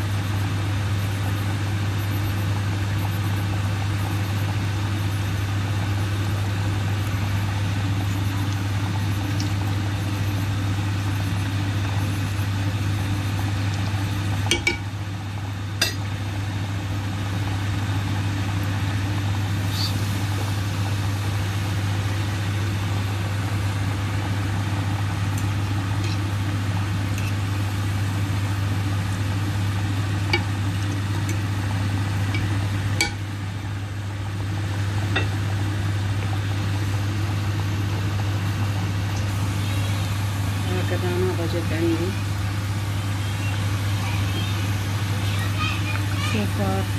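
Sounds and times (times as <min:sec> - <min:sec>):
steady low hum: 0:00.0 - 0:46.9
food sizzling in hot oil: 0:03.8 - 0:46.9.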